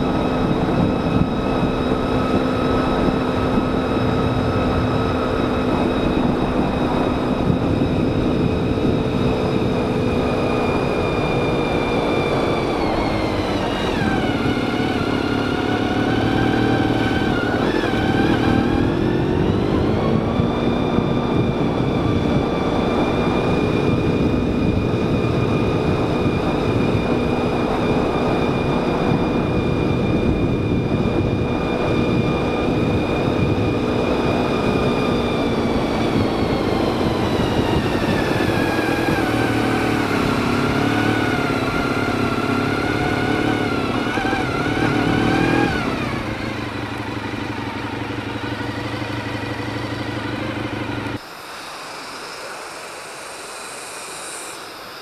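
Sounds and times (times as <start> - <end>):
motorcycle engine running: 0.0 - 51.3.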